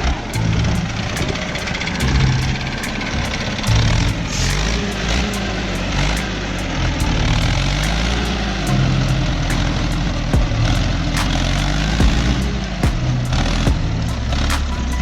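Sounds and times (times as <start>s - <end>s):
diesel engine working hard: 0.0s - 15.0s.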